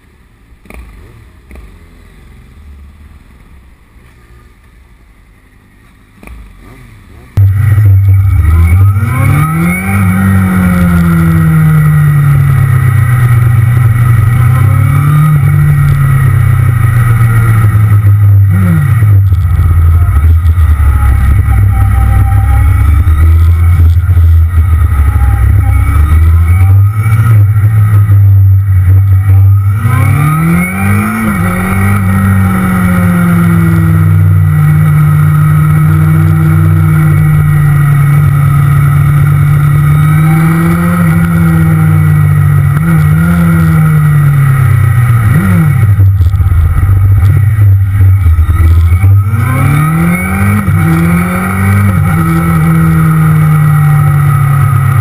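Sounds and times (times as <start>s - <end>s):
motorcycle engine accelerating: 6.1s - 55.0s.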